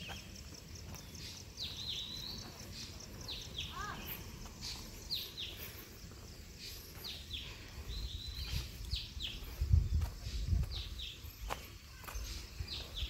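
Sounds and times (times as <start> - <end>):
birds calling: 0.0 - 13.0
footsteps on paving: 0.0 - 13.0.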